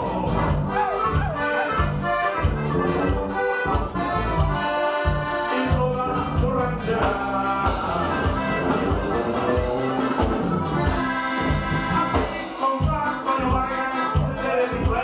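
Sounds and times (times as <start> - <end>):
accordion melody: 0.0 - 15.0
bajo sexto guitar: 0.0 - 15.0
bass: 0.0 - 15.0
drum kit beat: 0.0 - 15.0.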